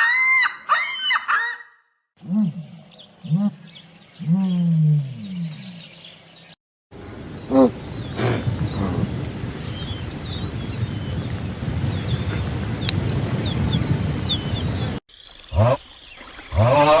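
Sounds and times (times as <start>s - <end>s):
small birds chirping: 2.2s - 16.7s.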